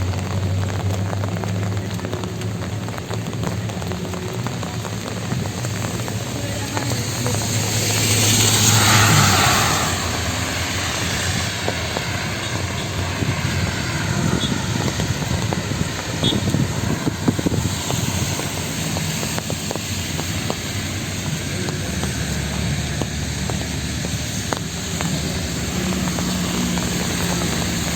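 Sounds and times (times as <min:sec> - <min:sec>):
rain: 0:00.0 - 0:27.9
traffic engine hum: 0:00.0 - 0:27.9
tyres hissing on wet road: 0:00.0 - 0:27.9.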